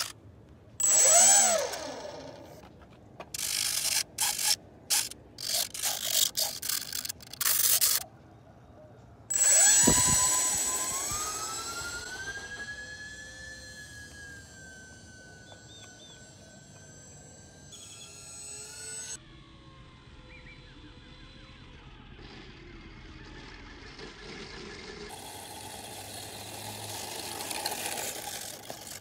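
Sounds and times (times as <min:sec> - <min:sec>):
electric motors whining: 0:00.0 - 0:00.2, 0:00.8 - 0:08.0, 0:09.3 - 0:29.0.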